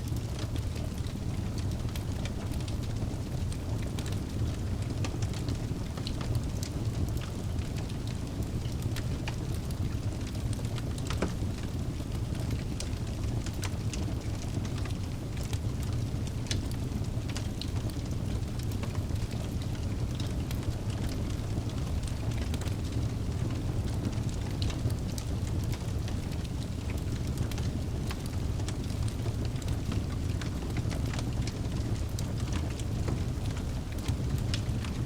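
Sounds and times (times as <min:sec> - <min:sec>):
burning logs crackling and popping: 0:00.0 - 0:35.0
low rumble of flames: 0:00.0 - 0:35.0.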